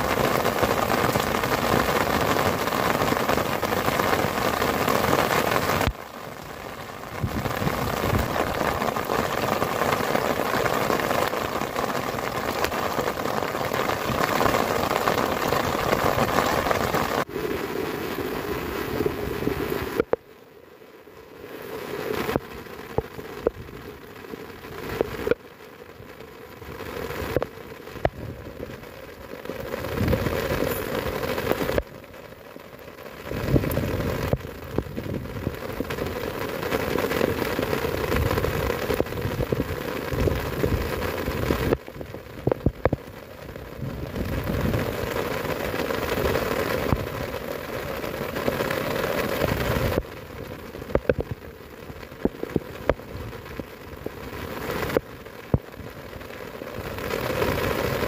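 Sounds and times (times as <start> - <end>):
low rumble of wind gusts: 0.0 - 20.1, 21.3 - 32.4, 33.1 - 58.0
heavy rain falling: 0.0 - 58.0.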